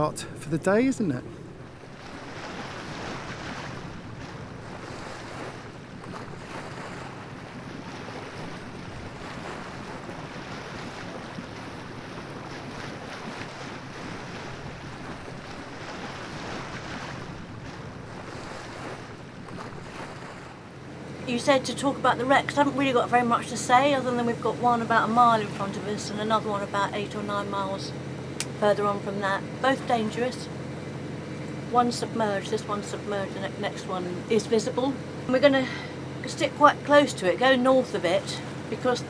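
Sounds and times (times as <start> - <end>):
sea water washing: 0.0 - 39.0.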